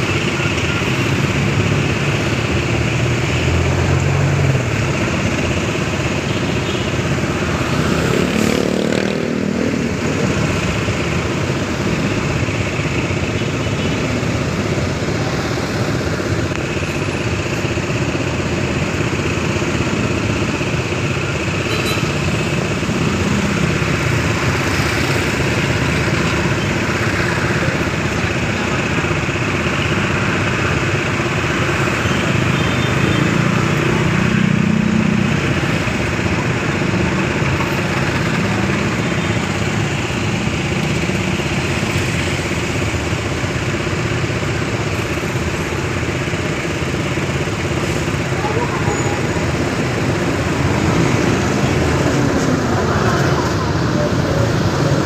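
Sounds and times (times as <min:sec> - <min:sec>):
motorcycle and traffic engines idling: 0:00.0 - 0:55.0.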